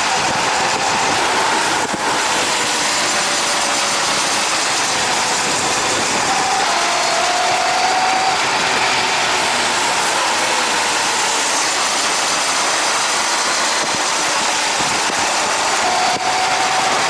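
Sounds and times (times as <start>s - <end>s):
motorcycle engine running: 0.0s - 17.0s
wind rushing: 0.0s - 17.0s.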